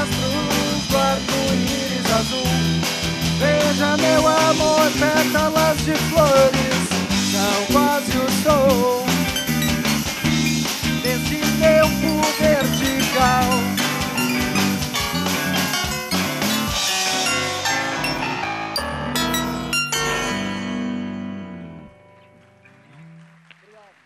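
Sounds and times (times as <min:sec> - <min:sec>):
live rock band playing: 0:00.0 - 0:22.1
bending guitar melody: 0:00.0 - 0:23.6.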